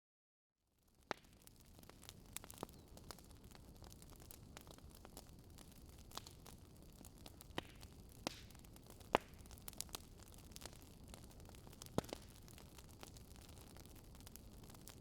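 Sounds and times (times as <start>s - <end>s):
wood fire crackling: 0.8s - 15.0s.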